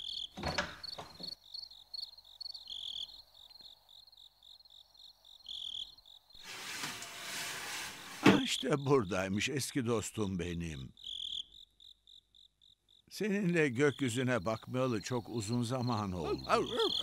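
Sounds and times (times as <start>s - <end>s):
crickets chirping: 0.0s - 6.7s, 7.4s - 17.0s.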